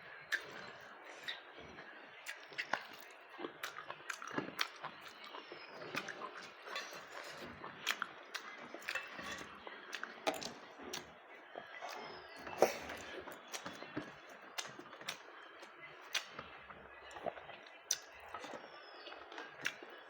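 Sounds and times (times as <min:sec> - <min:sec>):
person chewing crunchy food: 0:00.1 - 0:20.0.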